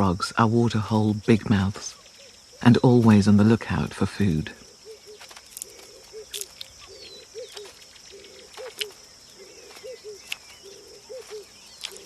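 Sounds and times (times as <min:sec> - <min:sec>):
high insect chirring: 0:00.0 - 0:12.0
bird chirps: 0:00.8 - 0:12.0.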